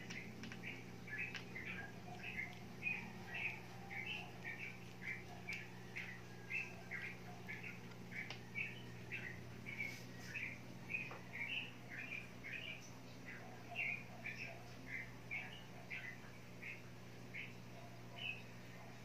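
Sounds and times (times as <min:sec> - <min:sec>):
bird chirping: 0:00.0 - 0:19.0
steady low hum: 0:00.0 - 0:19.0.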